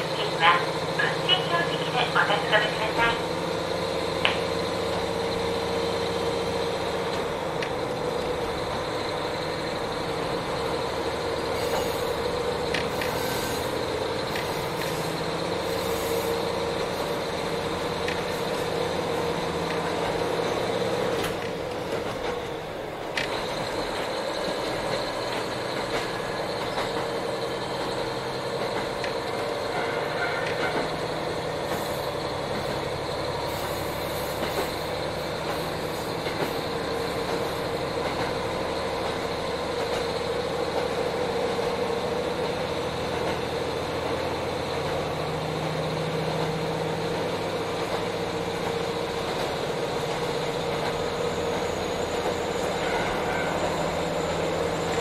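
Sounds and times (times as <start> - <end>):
diesel engine drone: 0.0 - 55.0
wheel and rail noise: 0.0 - 55.0.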